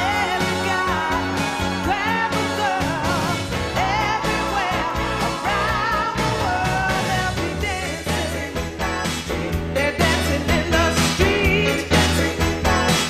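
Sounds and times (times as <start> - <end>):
pop song with singer and band: 0.0 - 13.0.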